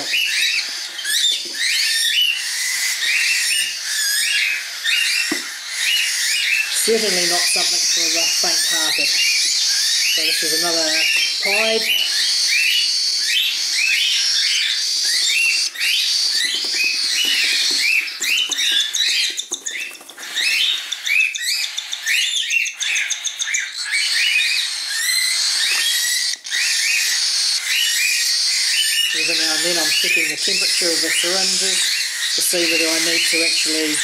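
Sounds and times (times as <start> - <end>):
cockatiel chick begging chirps: 0.0 - 34.0.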